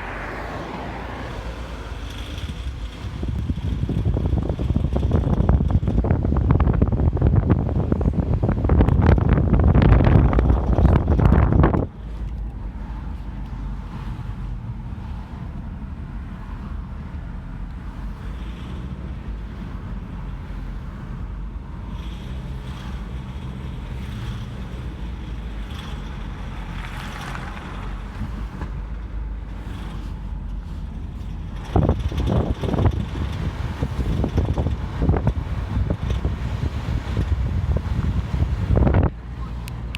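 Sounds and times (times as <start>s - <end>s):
car gurgling: 0.0s - 39.9s
low engine rumble: 0.0s - 39.9s.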